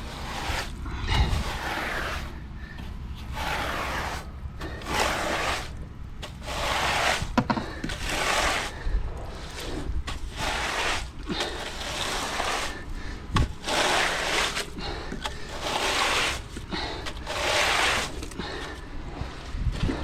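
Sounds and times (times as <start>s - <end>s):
wet concrete scraping and splattering: 0.0s - 18.9s.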